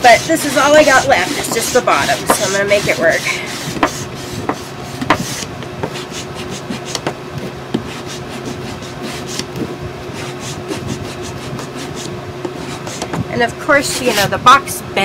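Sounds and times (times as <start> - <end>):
sanding block scratching wood: 0.0 - 7.1, 7.8 - 13.1, 13.8 - 14.3.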